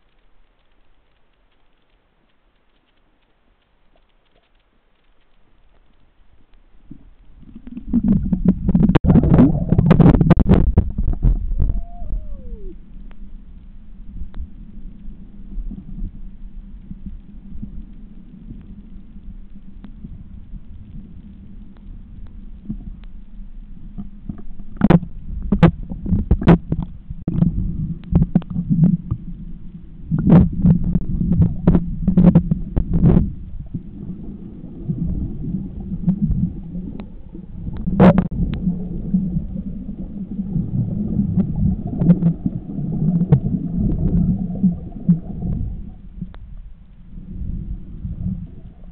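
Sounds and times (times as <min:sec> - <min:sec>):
underwater rumble of moving water: 0:00.0 - 0:48.9.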